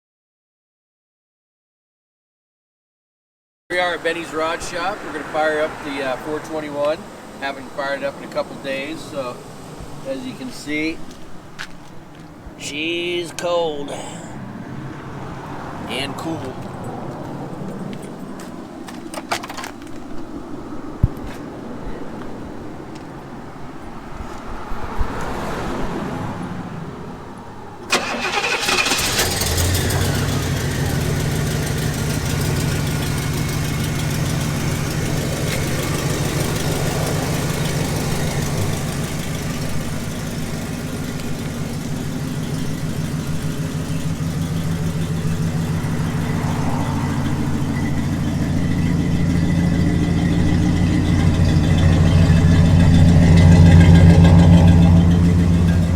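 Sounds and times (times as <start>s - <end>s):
car engine starting and idling: 3.7s - 19.9s, 25.2s - 55.9s.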